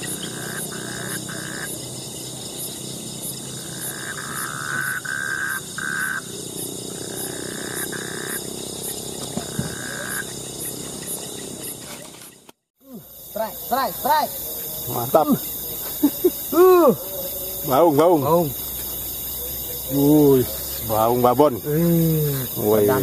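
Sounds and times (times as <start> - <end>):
lower frog call: 0.0 - 1.8, 3.5 - 10.4, 12.8 - 23.0
high-pitched insect trilling: 0.0 - 23.0.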